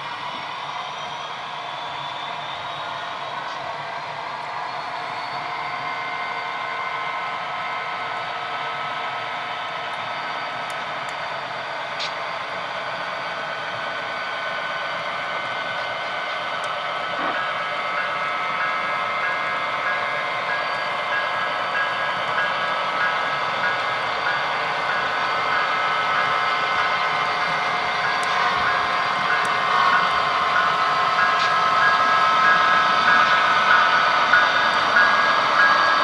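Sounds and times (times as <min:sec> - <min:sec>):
model locomotive engine drone: 0:00.0 - 0:36.0.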